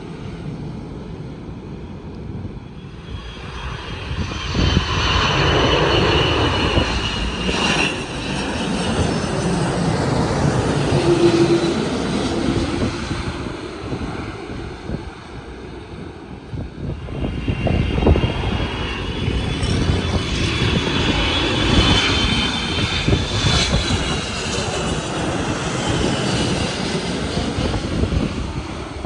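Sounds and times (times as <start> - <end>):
airliner engine noise: 0.0 - 29.0
wind rumble on microphone: 0.0 - 29.0
high jet whine falling in pitch: 1.6 - 29.0.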